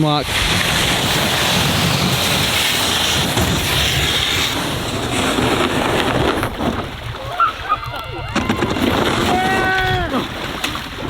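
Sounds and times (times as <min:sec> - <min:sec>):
kayak hull hissing over snow: 0:00.0 - 0:11.0
wind buffeting microphone: 0:00.0 - 0:11.0.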